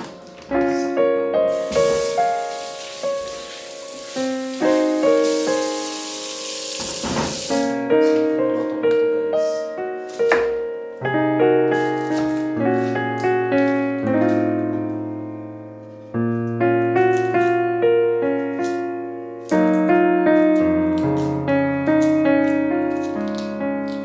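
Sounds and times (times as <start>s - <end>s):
slow gentle piano piece: 0.0s - 24.0s.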